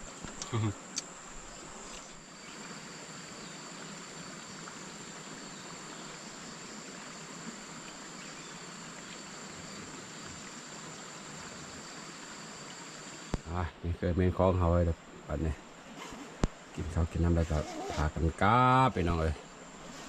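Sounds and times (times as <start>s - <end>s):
even rushing hiss: 0.0s - 20.0s
insects droning: 0.0s - 20.0s.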